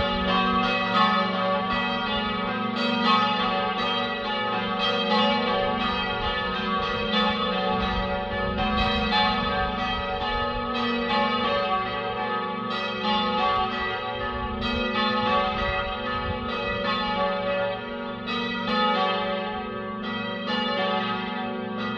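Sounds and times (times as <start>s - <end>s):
church bells ringing: 0.0s - 21.9s.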